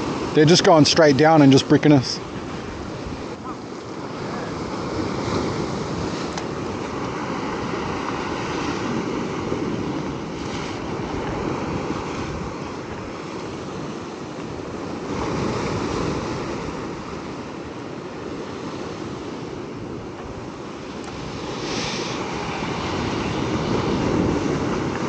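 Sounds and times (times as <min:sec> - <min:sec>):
ocean surf breaking on rock: 0:00.0 - 0:25.0
wind buffeting microphone: 0:00.0 - 0:25.0.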